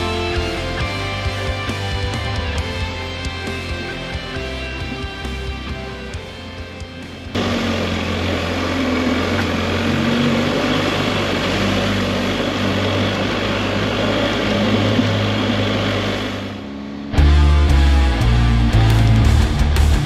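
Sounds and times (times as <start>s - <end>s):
guitar music: 0.0s - 16.2s, 16.8s - 20.0s
wind and road noise: 0.0s - 17.4s
motorcycle engine running: 0.0s - 20.0s.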